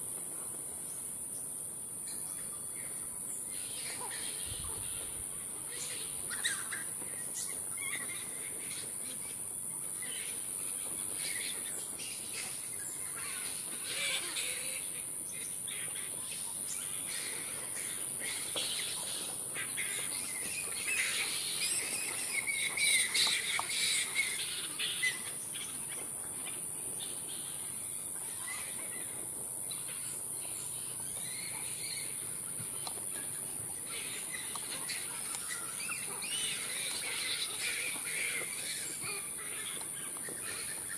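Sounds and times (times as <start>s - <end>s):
bats squawking and chattering: 3.5s - 40.9s.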